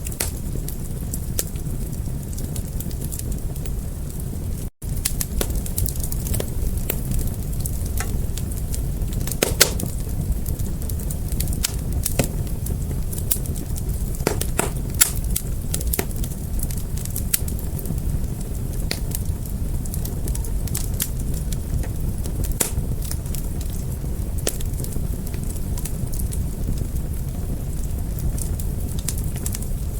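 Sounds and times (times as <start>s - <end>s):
low rumble of flames: 0.0s - 29.9s
wood fire crackling and popping: 0.0s - 29.9s.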